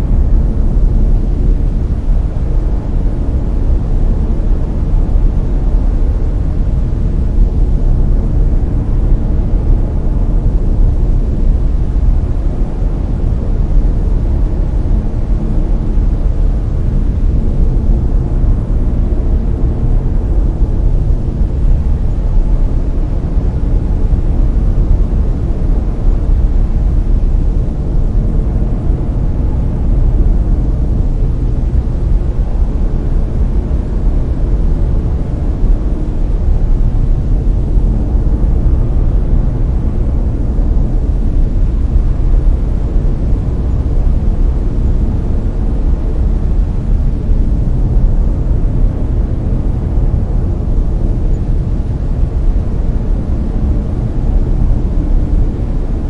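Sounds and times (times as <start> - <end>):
deep rumbling brown noise: 0.0 - 56.0.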